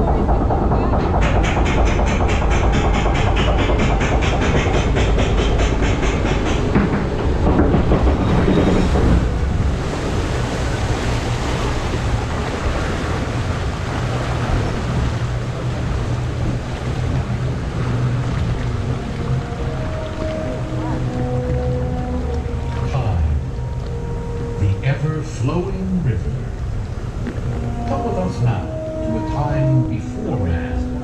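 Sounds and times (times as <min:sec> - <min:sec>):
low rumble and hum: 0:00.0 - 0:31.0.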